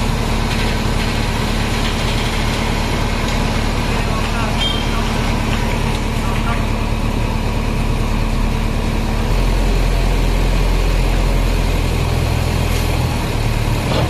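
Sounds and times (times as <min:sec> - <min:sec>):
heavy diesel engines running: 0:00.0 - 0:14.0.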